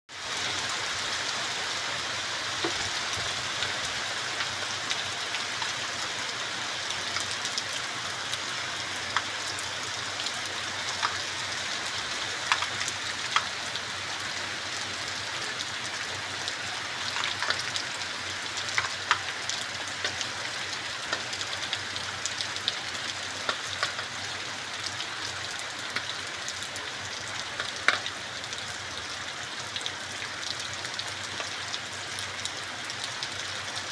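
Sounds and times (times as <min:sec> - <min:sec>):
heavy rain falling: 0:00.1 - 0:33.9
raindrops tapping surfaces: 0:02.4 - 0:33.9.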